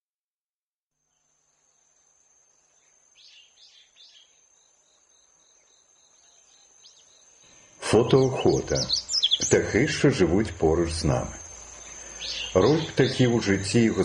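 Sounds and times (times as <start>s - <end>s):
faint birdsong: 1.0s - 14.0s
high insect trill: 1.0s - 14.0s.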